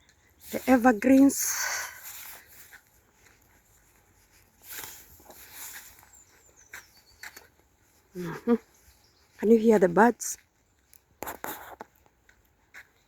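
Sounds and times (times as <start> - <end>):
footsteps on woodland path: 0.0 - 13.0.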